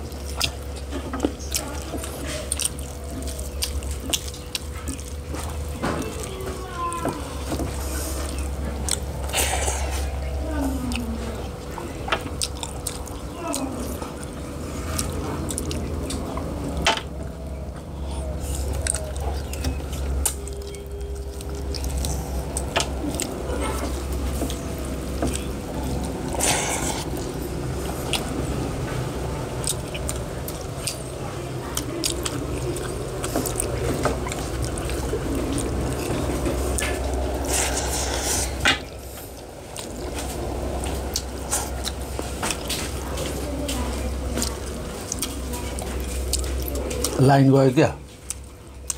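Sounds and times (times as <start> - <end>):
chewing: 0.0 - 48.9
steady low hum: 0.0 - 48.9.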